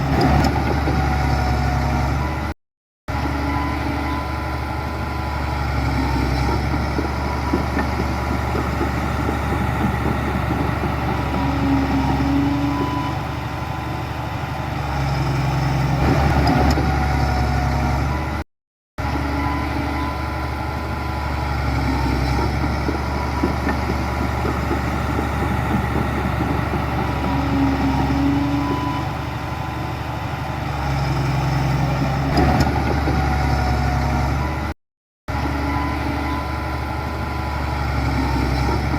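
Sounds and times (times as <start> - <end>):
heavy diesel engine running: 3.1 - 18.4, 19.0 - 38.9.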